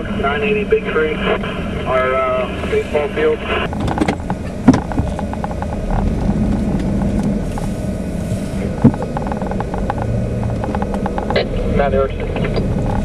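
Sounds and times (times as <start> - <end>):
vehicle rumble and hiss: 0.0 - 13.0.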